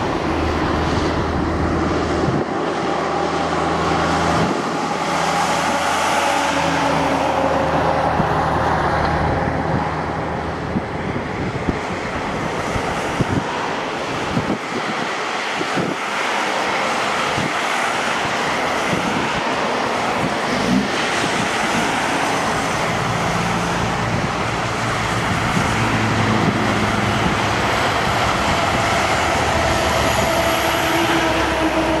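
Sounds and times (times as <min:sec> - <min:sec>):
jet engine roar: 0:00.0 - 0:32.0
jet engine whine: 0:00.0 - 0:32.0.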